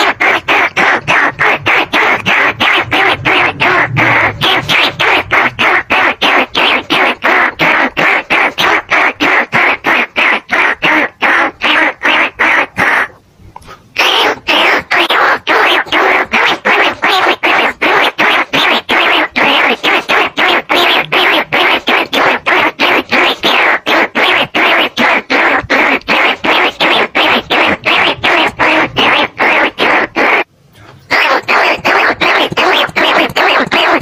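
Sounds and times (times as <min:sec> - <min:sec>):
rat decoy call squeaky chirps: 0:00.0 - 0:13.1, 0:14.0 - 0:30.5, 0:31.1 - 0:34.0.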